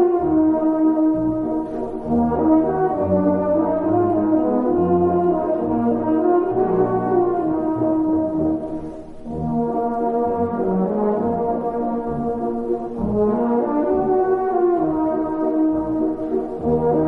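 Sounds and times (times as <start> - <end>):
brass waltz music: 0.0 - 17.0.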